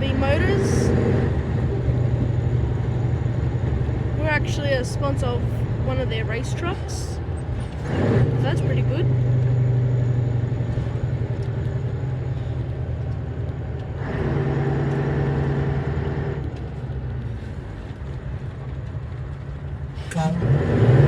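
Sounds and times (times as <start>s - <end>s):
diesel truck engine driving: 0.0s - 21.0s.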